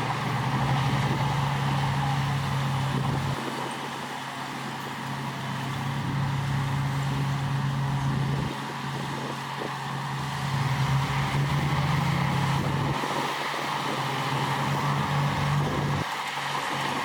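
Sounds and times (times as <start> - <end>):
heavy diesel machinery engine: 0.0 - 17.0.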